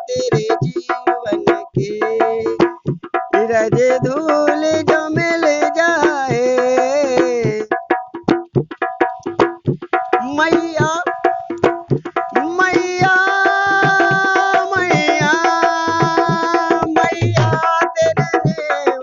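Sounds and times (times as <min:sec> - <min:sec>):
hand drum fast rhythm: 0:00.0 - 0:19.0.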